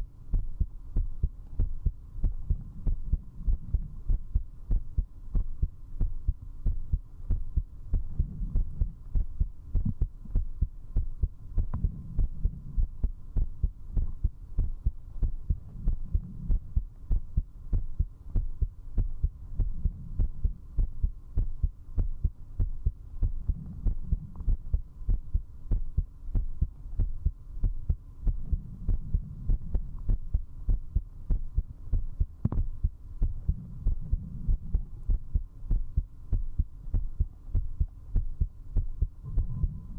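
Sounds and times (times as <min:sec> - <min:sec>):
faint steady hum: 0:00.0 - 0:39.9
fast heartbeat thumps: 0:00.0 - 0:39.9.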